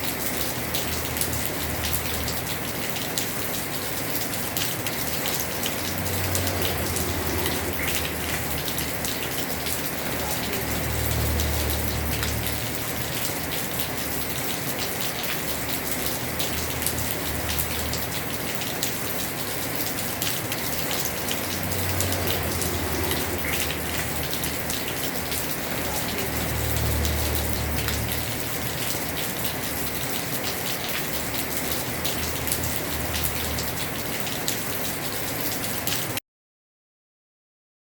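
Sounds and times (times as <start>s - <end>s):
raindrops ticking: 0.0s - 36.1s
heavy rain on a roof: 0.0s - 36.2s.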